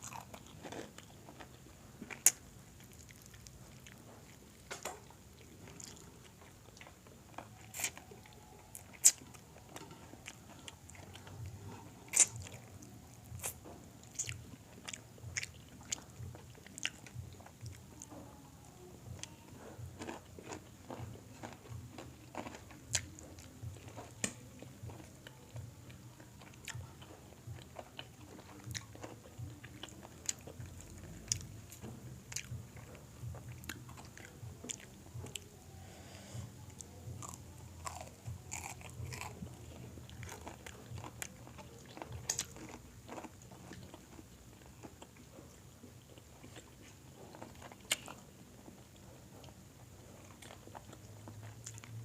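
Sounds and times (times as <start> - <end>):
person chewing crispy food: 0.0 - 35.5, 36.5 - 52.0.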